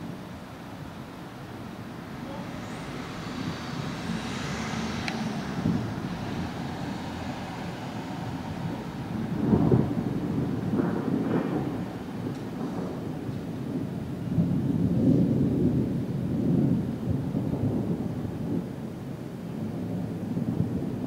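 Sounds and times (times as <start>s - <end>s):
thunder rumbling: 0.0s - 21.0s.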